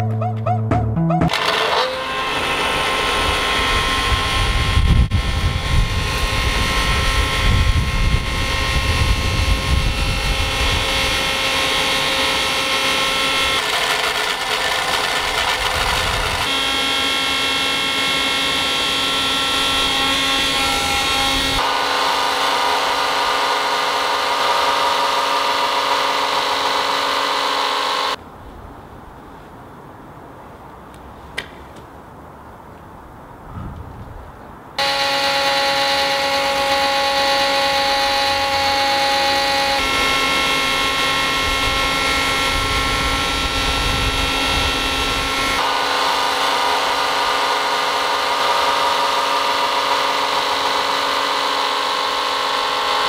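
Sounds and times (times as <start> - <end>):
electric blender motor running: 1.3 - 28.2, 34.8 - 53.0.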